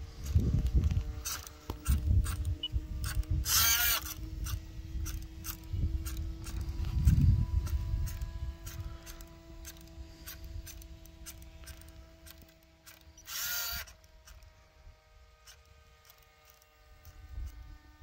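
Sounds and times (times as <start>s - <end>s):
small gear motor whirring: 0.0s - 18.0s.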